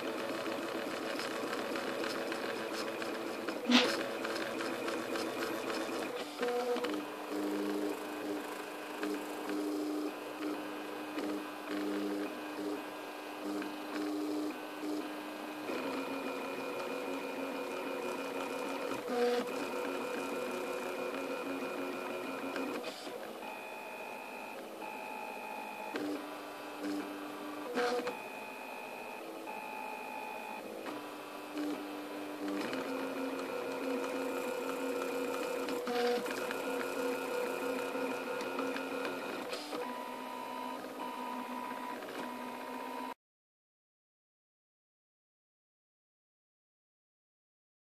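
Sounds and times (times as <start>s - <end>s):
printer stepper motors whining: 0.0s - 43.2s.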